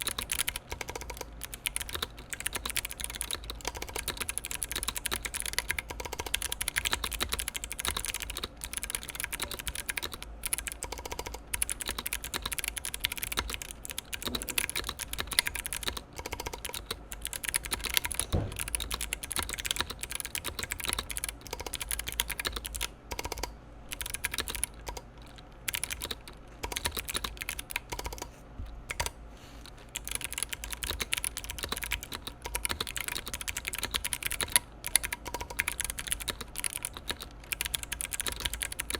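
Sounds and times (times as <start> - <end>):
clicky mechanical keyboard typing: 0.0 - 28.3, 28.9 - 38.9.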